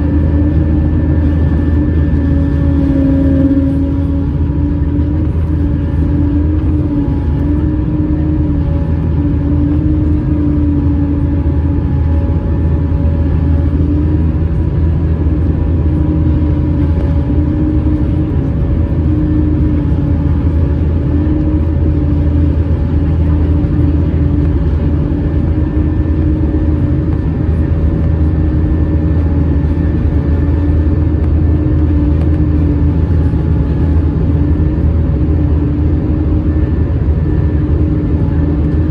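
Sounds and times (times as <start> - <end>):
constant wavering hum: 0.0 - 38.9
jet engine cabin rumble: 0.0 - 38.9.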